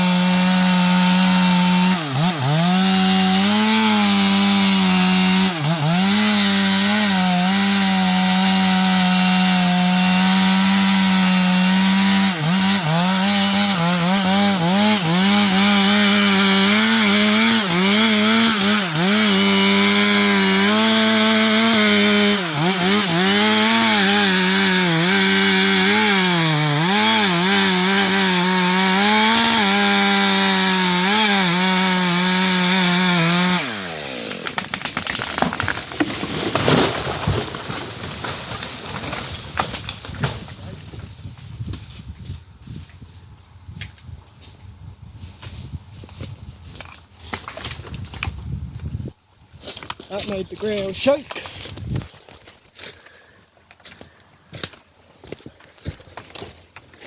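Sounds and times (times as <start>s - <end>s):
chainsaw cutting wood: 0.0s - 41.8s, 45.4s - 53.2s.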